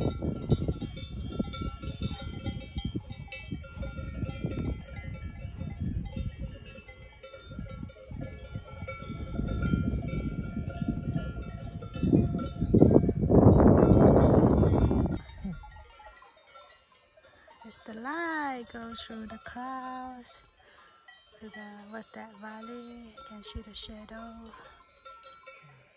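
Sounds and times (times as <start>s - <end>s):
cowbells clanking: 0.0s - 25.9s.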